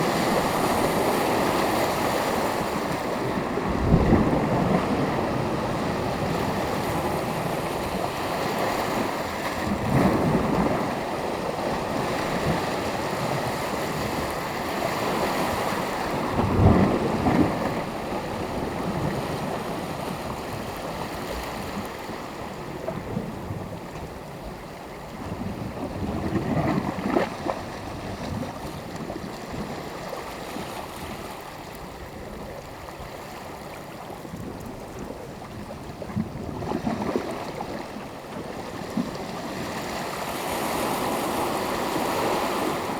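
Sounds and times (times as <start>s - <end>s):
small waves washing onto beach: 0.0s - 42.9s.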